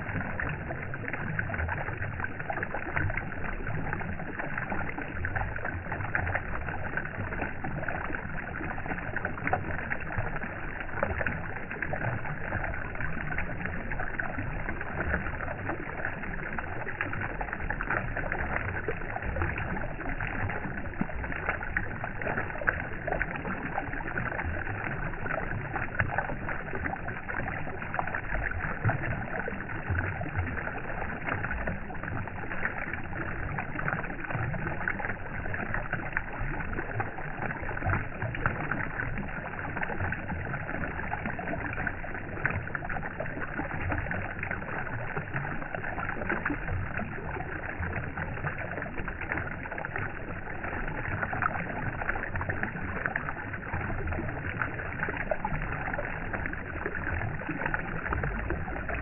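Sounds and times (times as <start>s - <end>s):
steady rushing noise with crackle: 0.0s - 59.0s.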